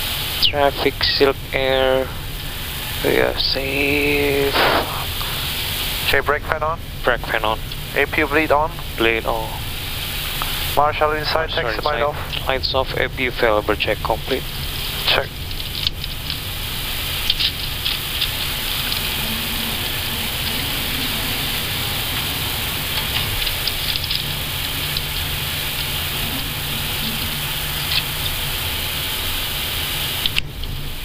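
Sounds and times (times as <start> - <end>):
airflow hiss: 0.0 - 31.0
low engine hum: 0.0 - 31.0.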